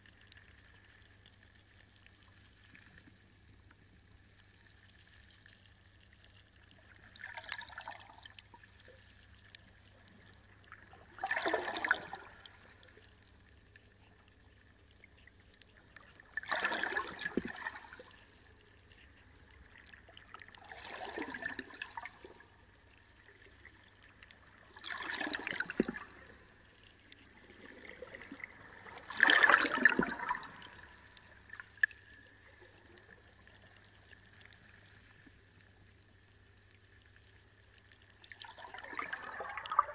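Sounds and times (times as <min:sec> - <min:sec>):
aquarium water splashing and gurgling: 0:04.4 - 0:39.9.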